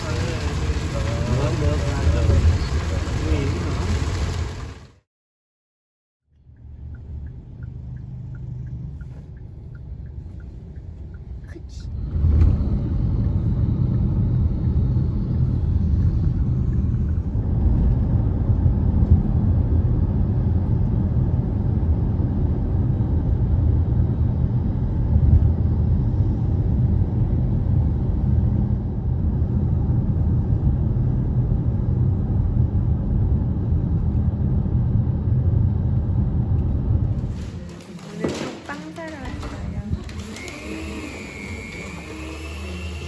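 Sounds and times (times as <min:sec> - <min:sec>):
vehicle road and engine rumble: 0:00.0 - 0:05.1, 0:06.3 - 0:43.0.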